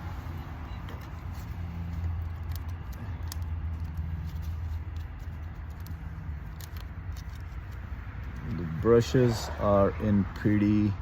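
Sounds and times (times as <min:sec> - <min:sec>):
faint clicks of metal parts: 0:00.1 - 0:09.0.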